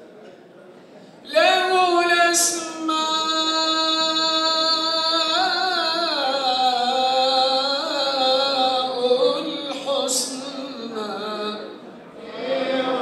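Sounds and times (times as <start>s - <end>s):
solo voice chanting: 1.3s - 13.0s.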